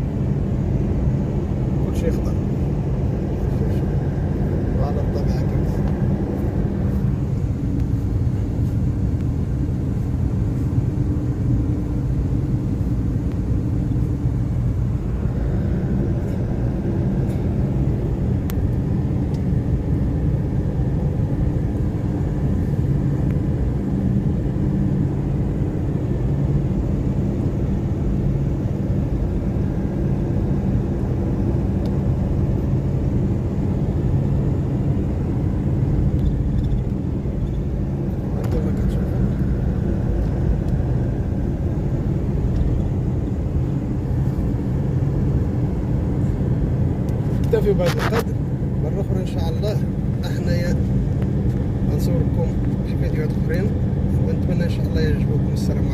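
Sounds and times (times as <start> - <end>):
vehicle engine and road rumble: 0.0 - 55.9.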